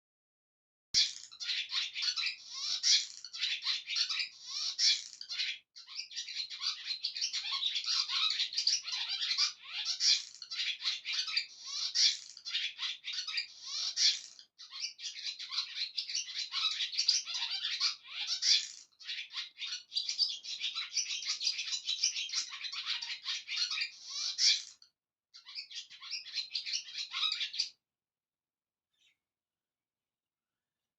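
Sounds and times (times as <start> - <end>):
small birds chirping: 1.0 - 24.8, 25.4 - 27.8, 28.9 - 29.2.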